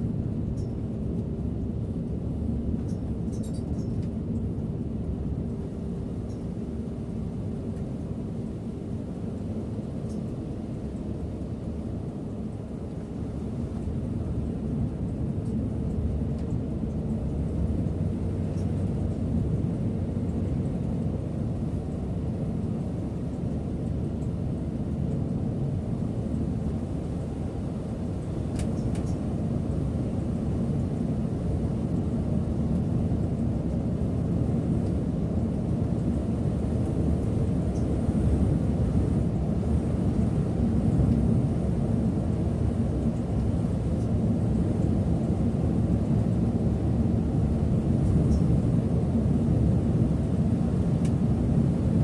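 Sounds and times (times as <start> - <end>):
bus engine and road rumble: 0.0 - 52.0.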